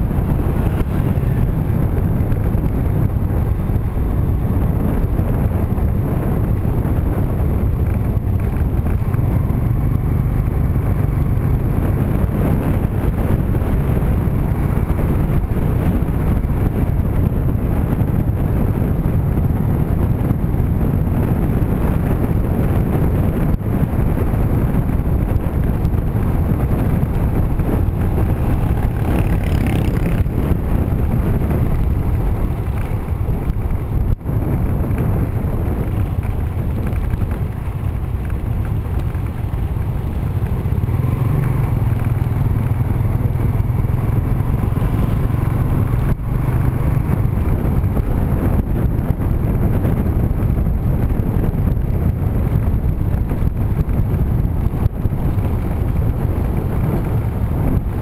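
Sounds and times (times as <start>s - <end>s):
motorbike engines running: 0.0s - 58.0s
wind buffeting microphone: 0.0s - 58.0s.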